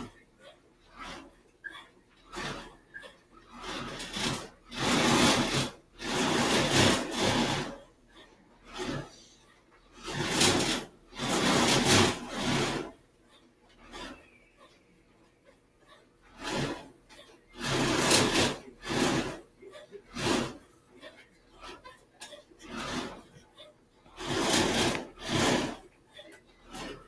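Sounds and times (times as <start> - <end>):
paper rubbing and scraping: 0.0 - 14.8, 15.5 - 27.0.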